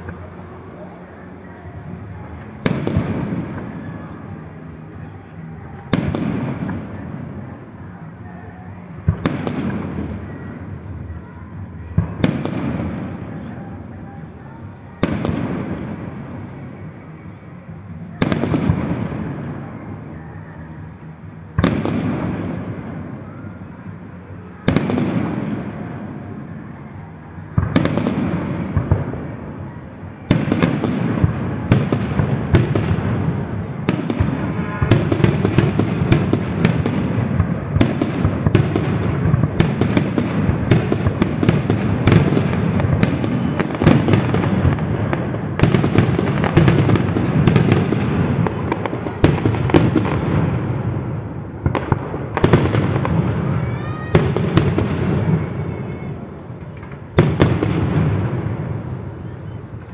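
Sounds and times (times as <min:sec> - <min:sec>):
fireworks barrage of bangs and crackles: 0:00.0 - 0:59.9.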